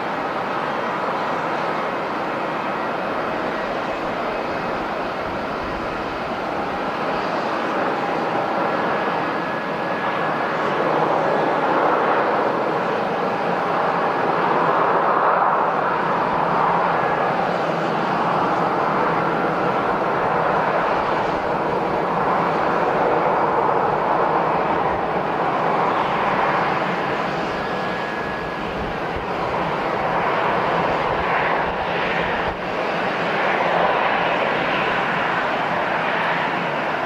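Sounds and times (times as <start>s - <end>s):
airliner engines rushing: 0.0s - 37.0s.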